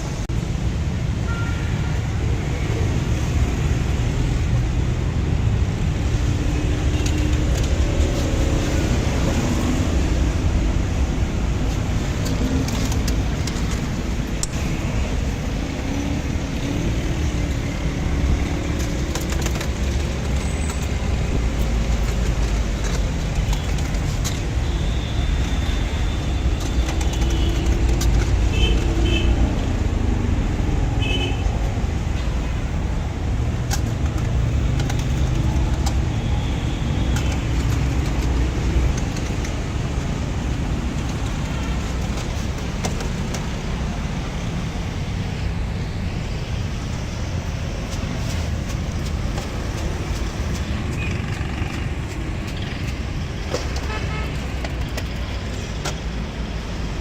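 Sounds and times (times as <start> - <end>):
motor traffic rumble: 0.0 - 57.0.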